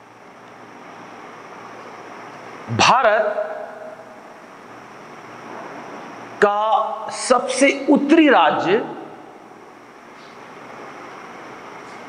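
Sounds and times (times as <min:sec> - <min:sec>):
faint high-pitched whine: 0:00.0 - 0:12.0
room noise hiss: 0:00.0 - 0:12.0.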